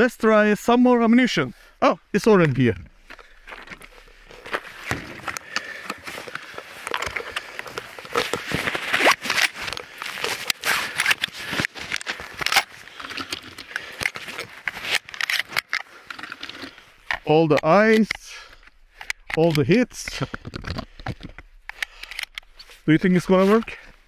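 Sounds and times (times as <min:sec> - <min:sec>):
shotgun mechanism clicks and scrapes: 0:03.6 - 0:23.4.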